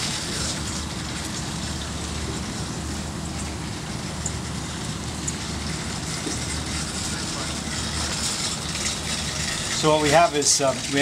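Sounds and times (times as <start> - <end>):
pump running: 0.0 - 11.0
water rushing through a hose: 0.0 - 11.0.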